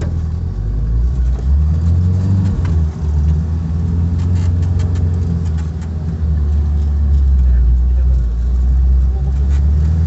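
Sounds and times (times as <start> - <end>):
engine running with low rumble: 0.0 - 10.0.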